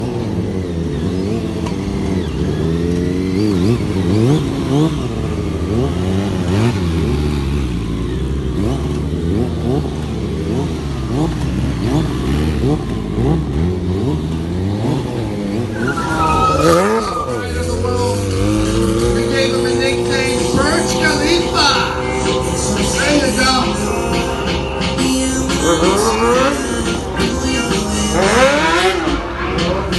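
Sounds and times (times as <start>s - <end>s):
motorcycle engines revving: 0.0s - 29.9s.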